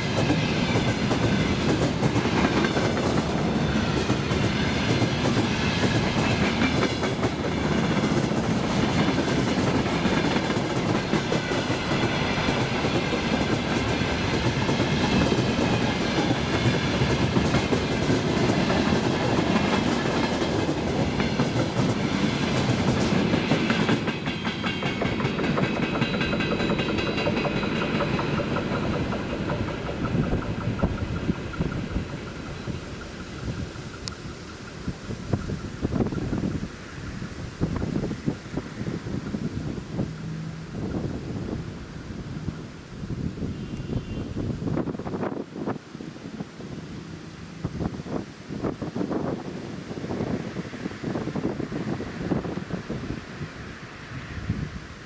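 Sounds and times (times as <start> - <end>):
freight train wheels clacking: 0.0 - 45.8
train rumble: 0.0 - 55.0.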